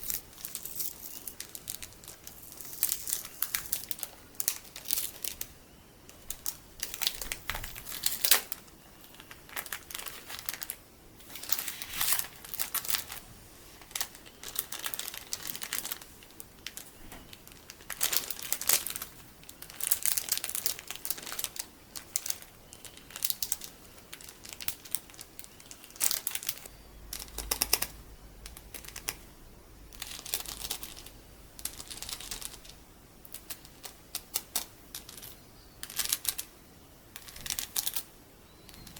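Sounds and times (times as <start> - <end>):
plastic bag crinkling: 0.0 - 5.5, 6.1 - 29.2, 29.9 - 36.5.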